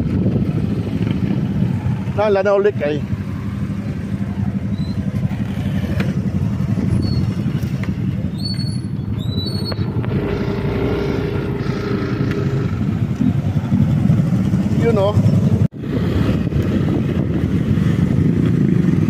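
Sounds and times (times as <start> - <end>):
motorcycle engines running: 0.0 - 19.0
road and wind noise: 0.0 - 19.0.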